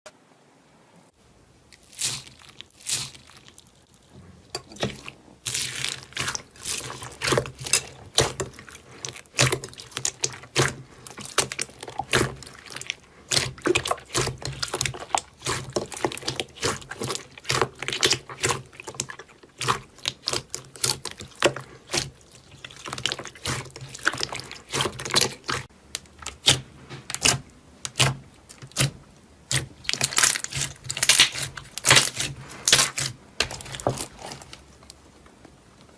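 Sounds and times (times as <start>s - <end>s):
slime squishing with wet pops: 1.7s - 35.0s.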